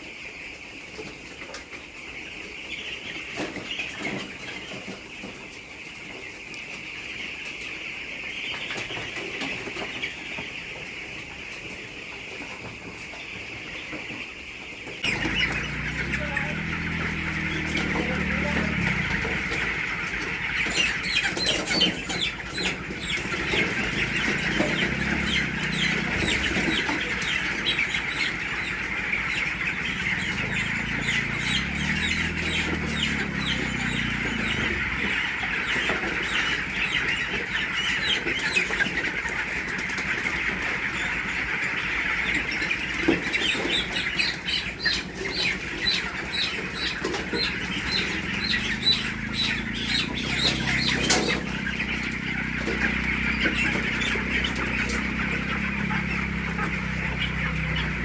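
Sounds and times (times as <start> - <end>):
chickens clucking and peeping: 0.0 - 58.0.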